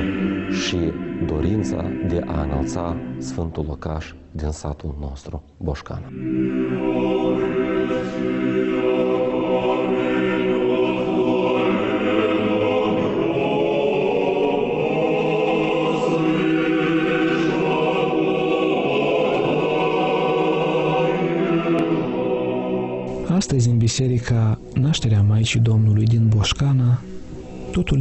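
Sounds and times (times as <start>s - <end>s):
choir chanting: 0.0s - 4.6s, 6.1s - 23.7s, 27.0s - 28.0s.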